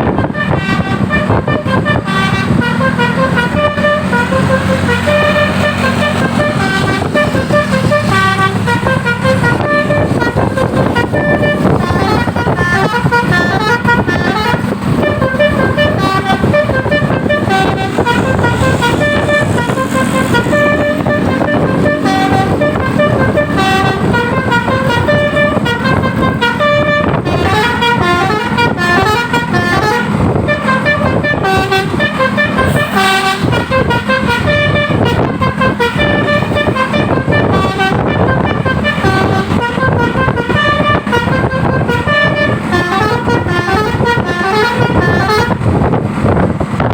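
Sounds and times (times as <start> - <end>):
multi-note air horn melody: 0.0 - 46.0.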